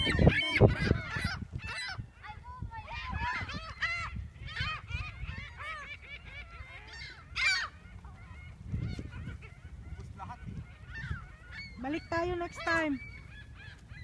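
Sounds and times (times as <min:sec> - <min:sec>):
gulls squawking: 0:00.0 - 0:14.0.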